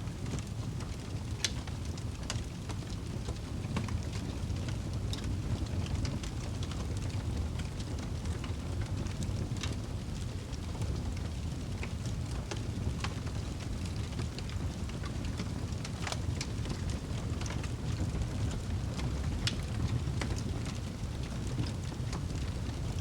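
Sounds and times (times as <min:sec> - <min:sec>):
fire crackles and pops: 0:00.0 - 0:23.0
roar of flames: 0:00.1 - 0:23.0.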